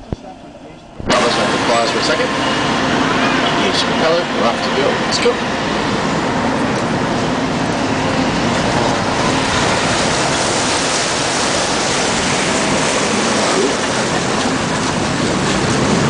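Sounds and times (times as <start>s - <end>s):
boat engine running: 0.0s - 16.0s
churning wake water: 0.0s - 16.0s.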